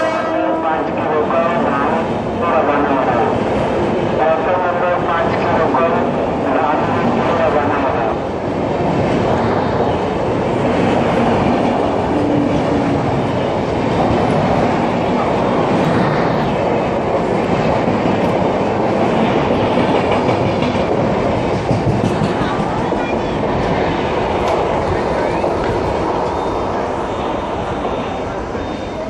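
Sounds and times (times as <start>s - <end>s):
train wheels running on rails: 0.8s - 29.0s.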